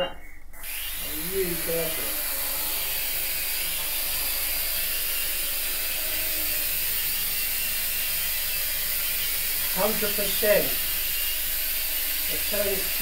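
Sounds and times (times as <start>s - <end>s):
drone propellers whirring: 0.3s - 13.0s.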